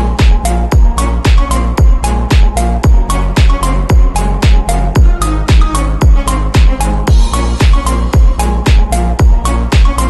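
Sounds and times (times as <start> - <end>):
electronic dance music: 0.0 - 10.0
kick drum beat: 0.0 - 10.0.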